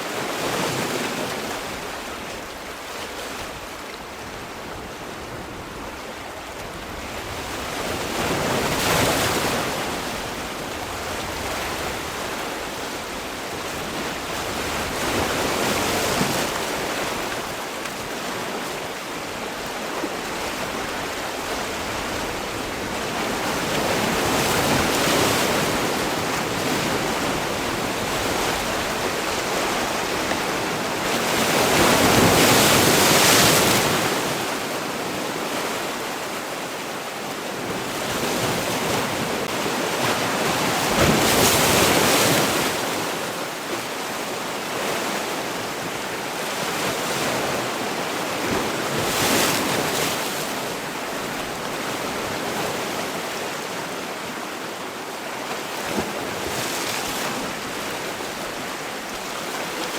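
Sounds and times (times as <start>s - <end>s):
sea waves breaking: 0.0s - 59.9s.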